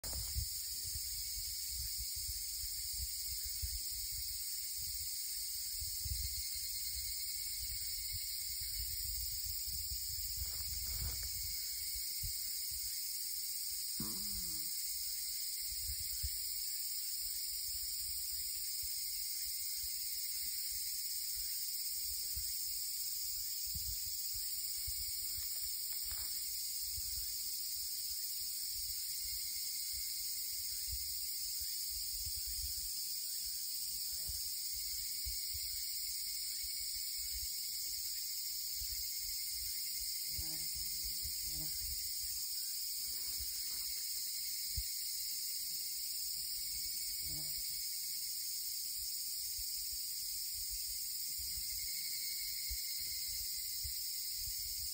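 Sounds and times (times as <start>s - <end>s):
insects chorus: 0.0s - 54.9s.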